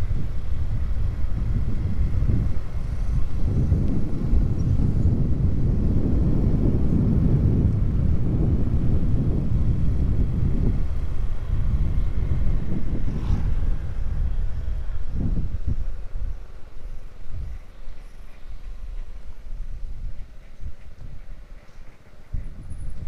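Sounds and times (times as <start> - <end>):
vehicle road noise: 0.0 - 23.0
wind buffeting microphone: 0.0 - 23.0.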